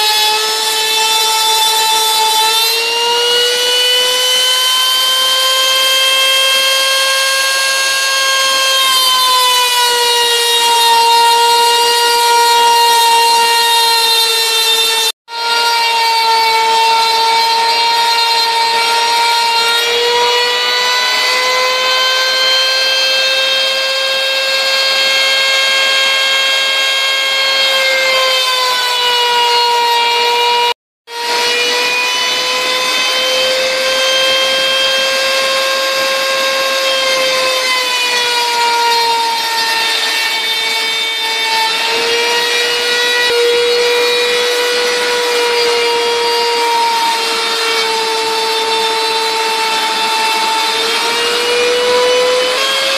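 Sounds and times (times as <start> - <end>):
router spindle high whine: 0.0 - 52.9.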